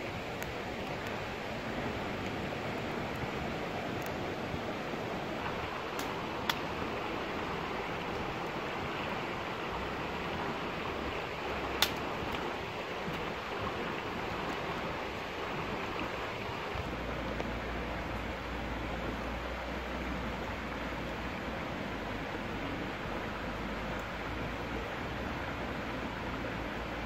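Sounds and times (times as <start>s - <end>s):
stream running over rocks: 0.0s - 27.0s.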